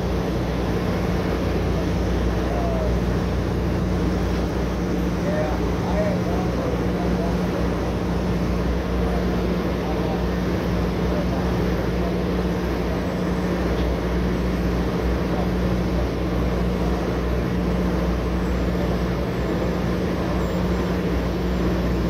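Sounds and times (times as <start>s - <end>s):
drilling rig machinery drone: 0.0s - 22.0s.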